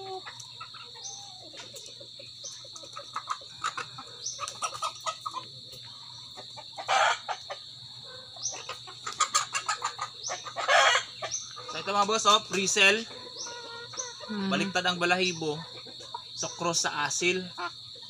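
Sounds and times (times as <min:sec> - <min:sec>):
chickens clucking and squawking: 0:00.0 - 0:18.0.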